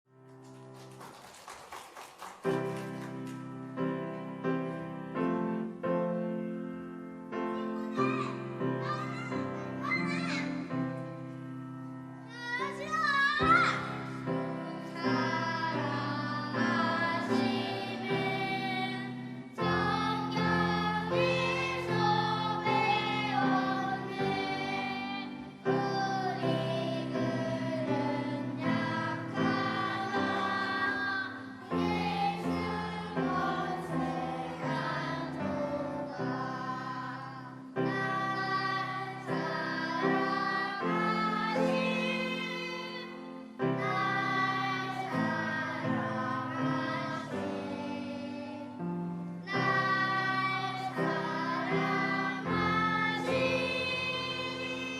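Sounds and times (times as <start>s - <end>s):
children's choir singing a hymn: 0.4s - 54.9s.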